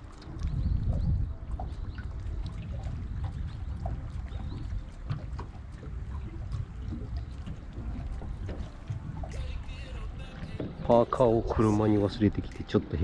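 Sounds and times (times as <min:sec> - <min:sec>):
light splashes: 0:00.0 - 0:13.0
waves lapping against boat hull: 0:00.0 - 0:13.0.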